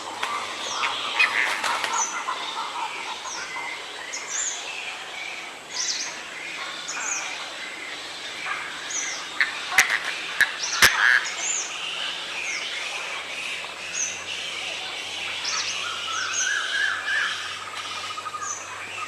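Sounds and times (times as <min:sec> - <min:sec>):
chatter of bird calls: 0:00.0 - 0:19.0.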